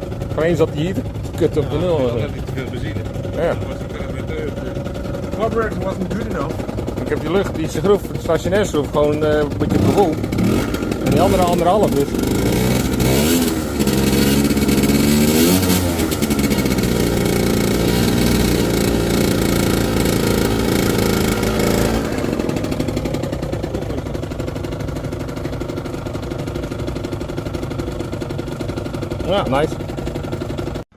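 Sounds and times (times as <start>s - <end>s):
scooter engine revving: 0.0s - 30.9s.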